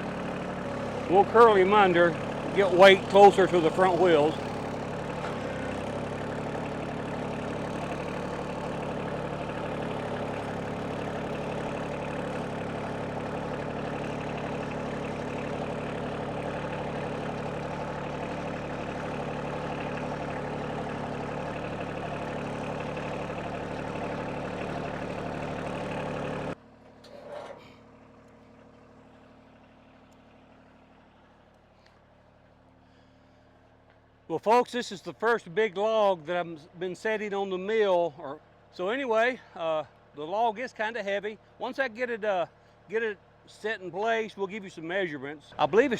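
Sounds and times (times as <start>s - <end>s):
diesel tractor engine running: 0.0s - 45.9s.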